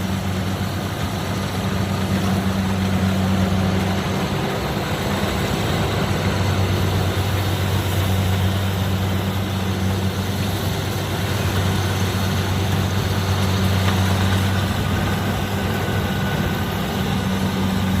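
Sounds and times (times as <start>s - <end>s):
harvester engine humming: 0.0s - 18.0s.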